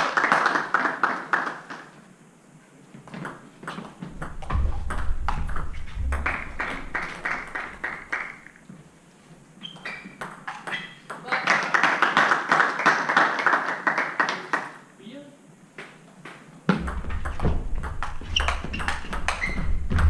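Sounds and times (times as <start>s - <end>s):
hissing background noise: 0.0s - 20.0s.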